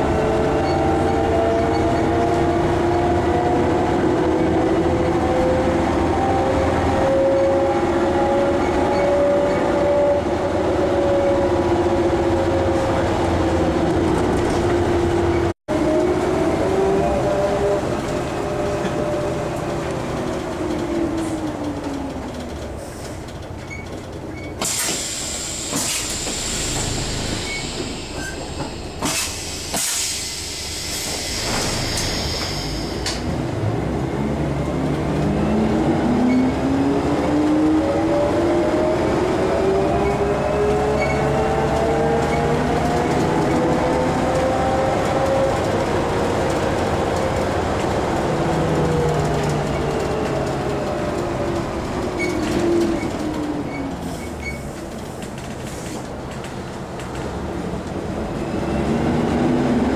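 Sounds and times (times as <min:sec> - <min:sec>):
bus engine whine: 0:00.0 - 0:59.9.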